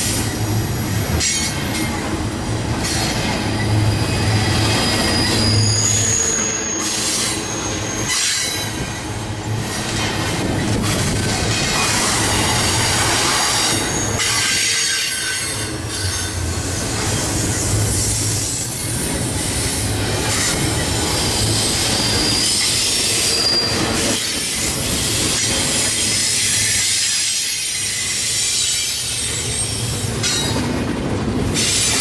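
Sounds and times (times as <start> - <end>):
train wheels squealing: 0.0 - 30.8, 31.4 - 32.0
freight train rumbling: 0.0 - 32.0.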